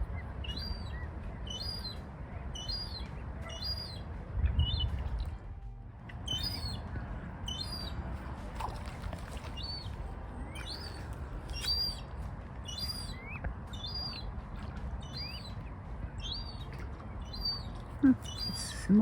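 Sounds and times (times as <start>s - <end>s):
seagull calling: 0.0s - 5.0s, 6.2s - 8.0s, 9.3s - 14.3s, 15.0s - 19.0s.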